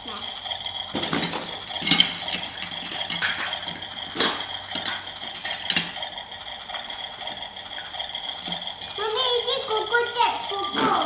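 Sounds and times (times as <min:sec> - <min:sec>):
toy dishes clattering: 0:00.9 - 0:11.0.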